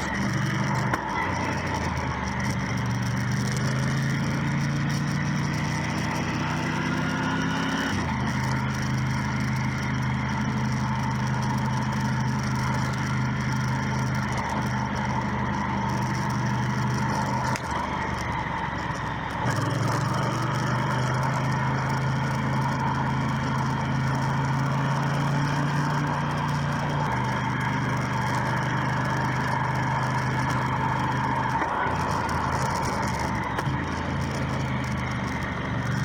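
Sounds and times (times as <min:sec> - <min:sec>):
motorcycle engine running: 0:00.0 - 0:36.0
road noise: 0:00.0 - 0:36.0.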